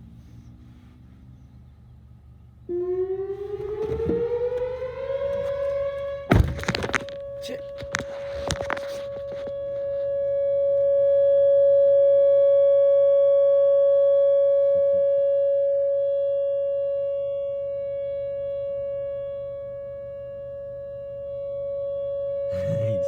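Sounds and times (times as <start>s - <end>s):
tornado warning siren wailing: 2.6s - 23.0s.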